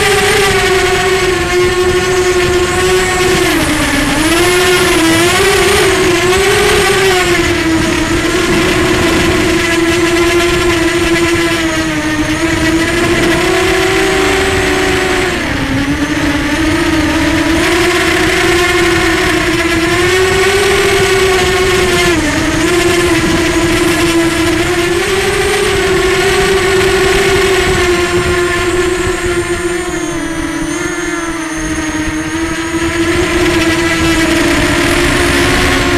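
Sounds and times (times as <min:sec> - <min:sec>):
drone motors whining: 0:00.0 - 0:35.9.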